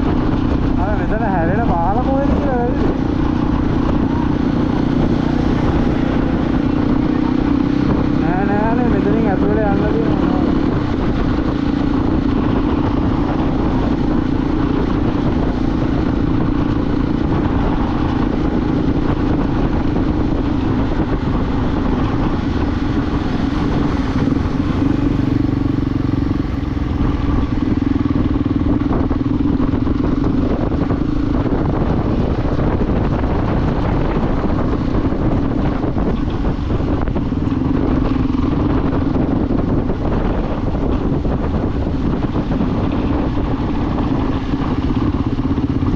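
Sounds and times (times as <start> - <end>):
motorcycle engine riding: 0.0 - 45.9.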